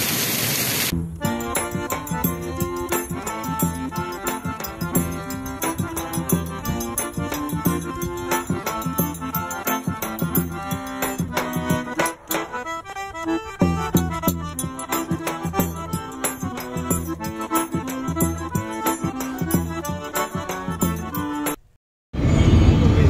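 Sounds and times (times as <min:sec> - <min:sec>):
rhythmic percussion beat: 0:00.9 - 0:21.6
held music notes: 0:00.9 - 0:21.7.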